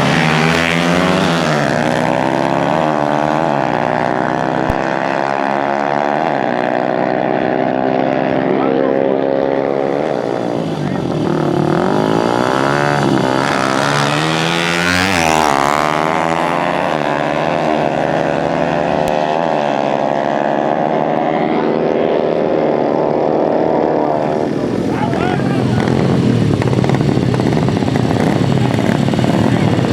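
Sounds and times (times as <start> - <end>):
dirt bike engines revving: 0.0 - 29.9
dirt bike passing at speed: 0.0 - 29.9.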